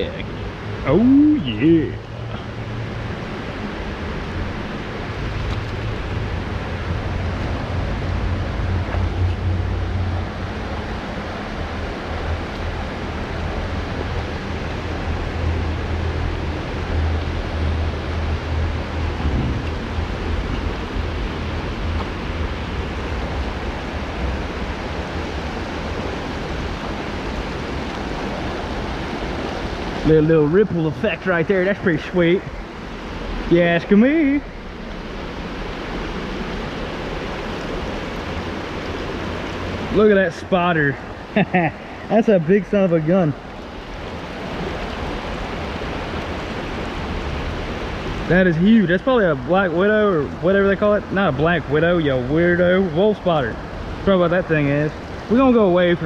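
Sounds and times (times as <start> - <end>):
rushing river water: 0.0 - 56.0.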